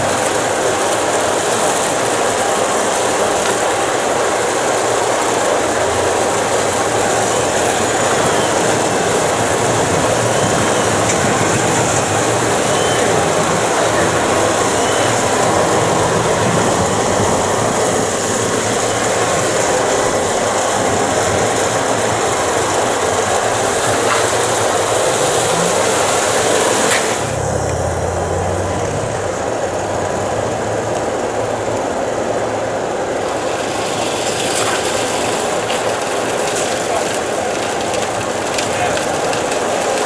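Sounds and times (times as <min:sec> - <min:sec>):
engine and machinery noise: 0:00.0 - 0:40.0.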